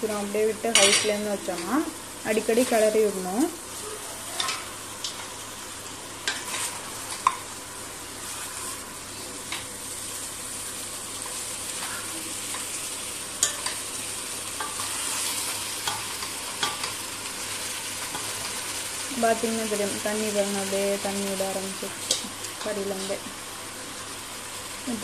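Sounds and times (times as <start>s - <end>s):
chicken sizzling in a pot: 0.0s - 25.0s.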